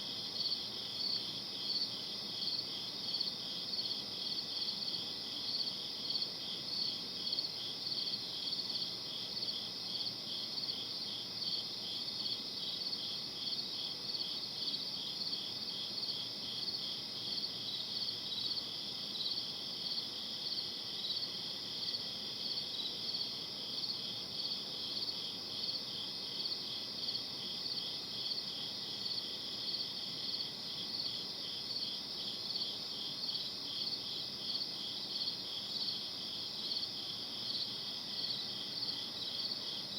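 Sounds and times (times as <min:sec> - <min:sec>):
crickets chirping: 0:00.0 - 0:39.9
faint background hiss: 0:00.0 - 0:39.9.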